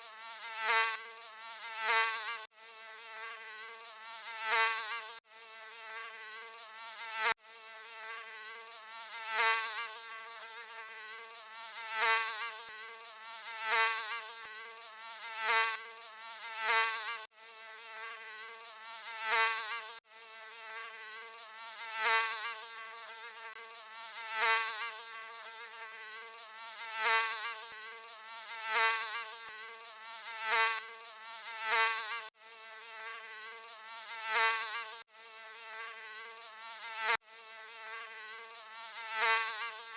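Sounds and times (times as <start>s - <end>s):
mosquito wing buzz: 0.0s - 39.9s.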